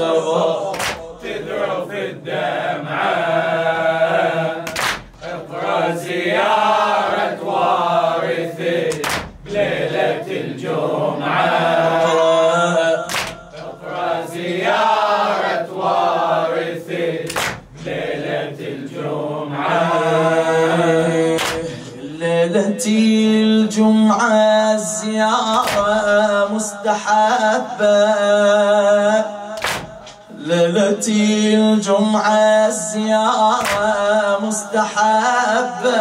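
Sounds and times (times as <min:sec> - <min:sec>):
men chanting mournfully: 0:00.0 - 0:36.0.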